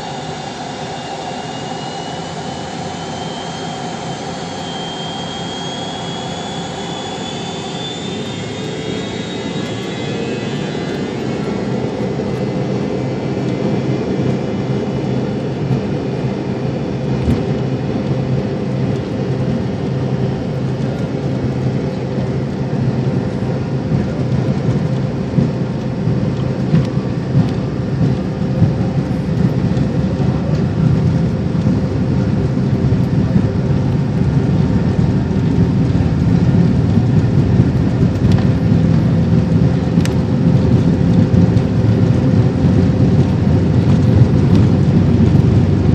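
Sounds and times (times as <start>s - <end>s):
jet engines rumbling in cabin: 0.0s - 45.9s.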